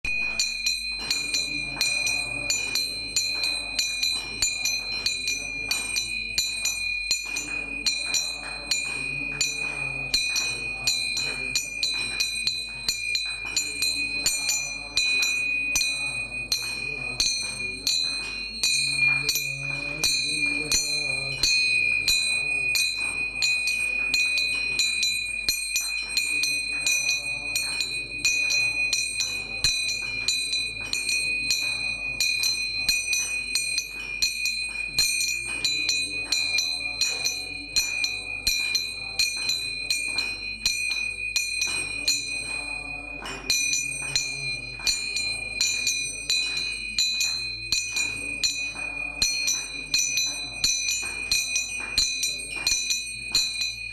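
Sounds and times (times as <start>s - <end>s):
bell ringing: 0.1s - 53.9s.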